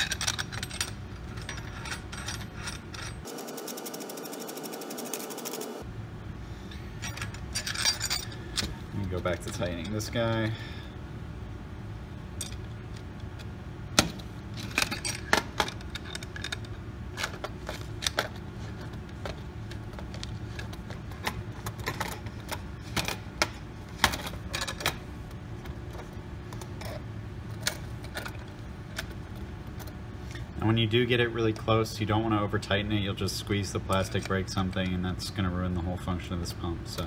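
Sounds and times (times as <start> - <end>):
low hum: 0.0 - 36.9.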